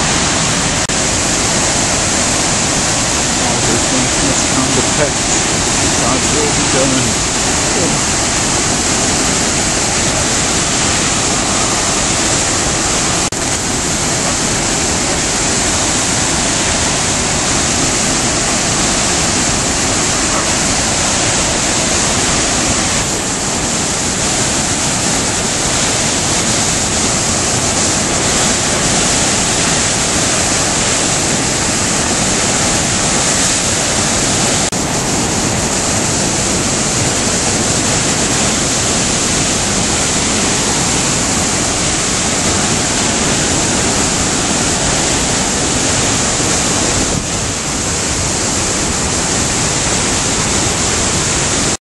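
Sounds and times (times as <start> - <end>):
river rushing over a dam: 0.0 - 51.8.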